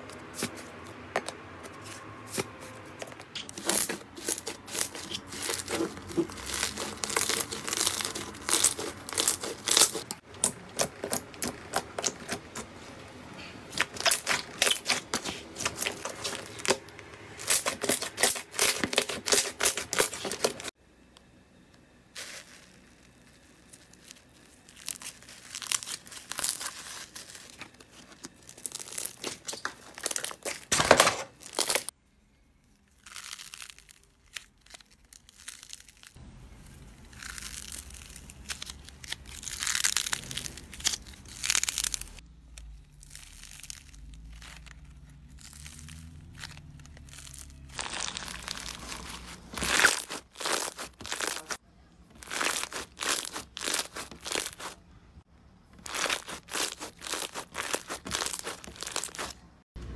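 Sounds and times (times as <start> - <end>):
slime crackling and popping: 3.4 - 12.4, 13.7 - 16.8, 17.4 - 20.7, 22.2 - 30.7, 32.9 - 54.8, 55.8 - 59.4.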